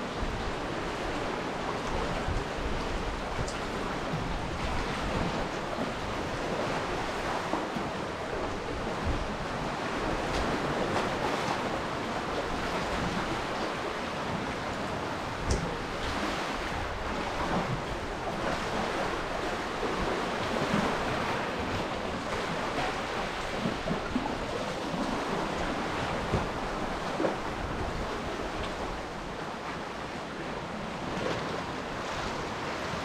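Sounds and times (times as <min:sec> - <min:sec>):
wind buffeting microphone: 0:00.0 - 0:30.1
sea surf washing onto beach: 0:00.0 - 0:33.0.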